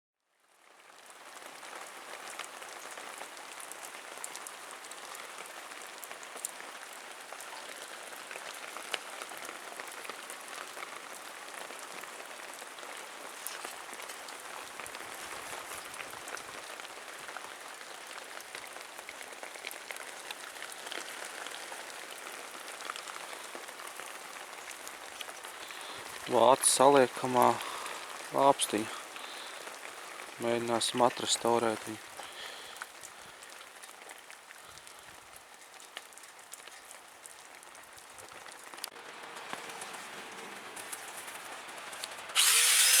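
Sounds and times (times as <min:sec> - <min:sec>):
rain pattering: 0:00.4 - 0:42.4.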